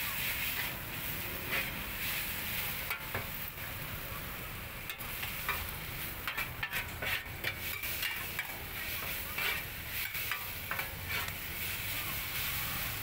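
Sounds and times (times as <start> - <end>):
metal spatula scraping wok: 0.0 - 13.0
noodles sizzling in wok: 0.0 - 13.0.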